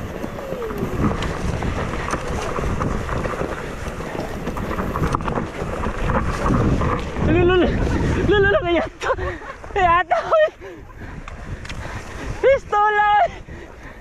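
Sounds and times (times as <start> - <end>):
bike clicks and rattles: 0.0 - 14.0
bike tyre noise on dirt: 0.0 - 14.0
wind buffeting microphone: 0.0 - 14.0.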